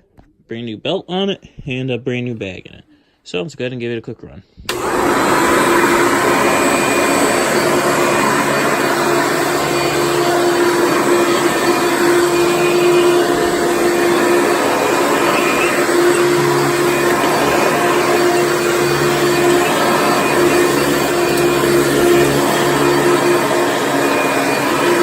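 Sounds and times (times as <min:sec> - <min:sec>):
vacuum cleaner running on carpet: 0:04.7 - 0:25.0.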